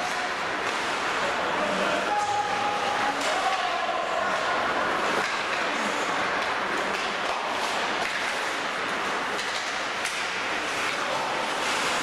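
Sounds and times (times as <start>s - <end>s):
skates scraping ice: 0.0s - 12.0s.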